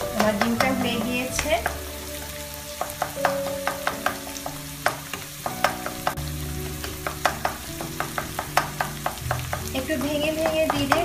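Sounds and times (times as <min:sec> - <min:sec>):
soft sizzle: 0:00.0 - 0:11.0
spatula tapping and scraping wok: 0:00.0 - 0:11.0.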